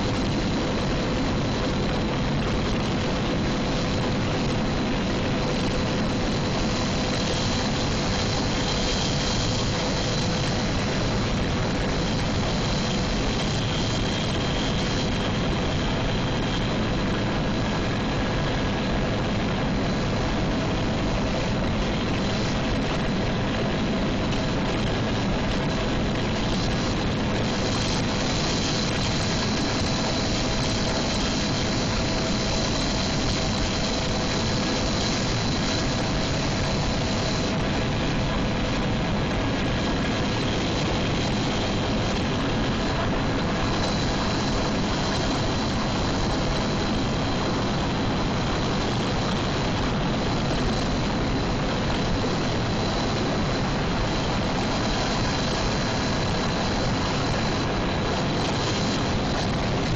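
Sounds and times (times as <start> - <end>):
helicopter turbine and rotor drone: 0.0 - 59.9.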